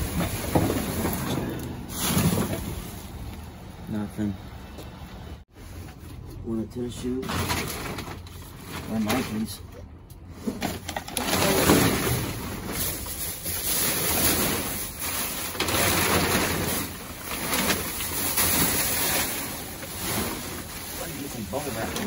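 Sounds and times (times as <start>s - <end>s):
plastic bags and bubble wrap rustling: 0.0s - 4.3s, 5.4s - 22.0s.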